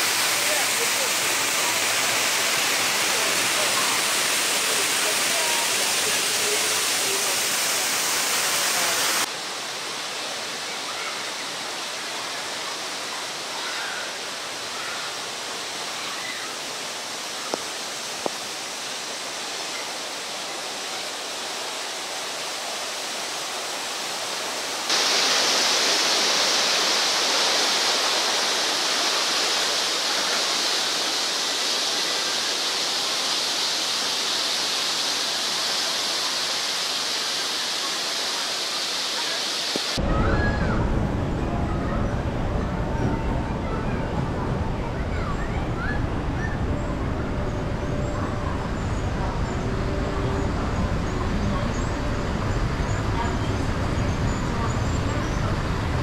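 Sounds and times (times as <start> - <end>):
hissing rush of water: 0.0 - 56.0.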